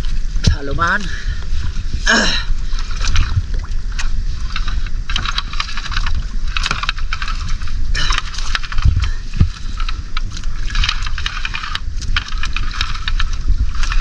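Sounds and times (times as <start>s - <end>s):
seawater splashing and dripping: 0.0s - 14.0s
steady low rumble: 0.0s - 14.0s.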